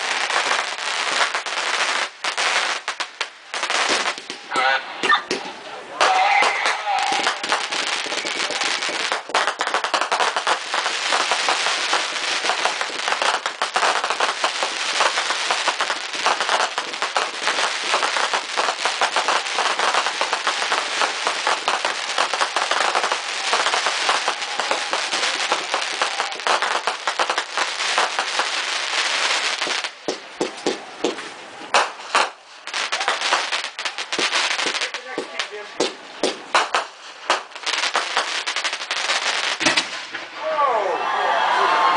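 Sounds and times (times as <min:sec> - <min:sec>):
fireworks popping: 0:00.0 - 0:40.4.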